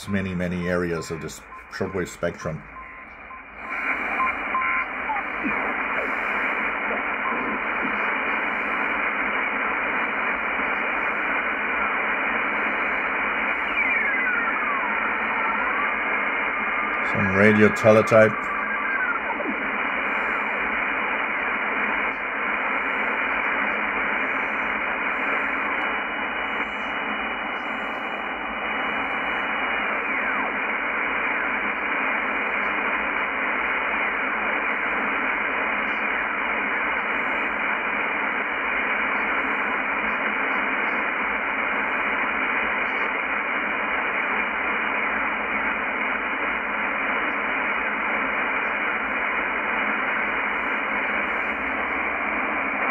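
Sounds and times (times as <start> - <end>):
radio static hiss: 0.0 - 52.9.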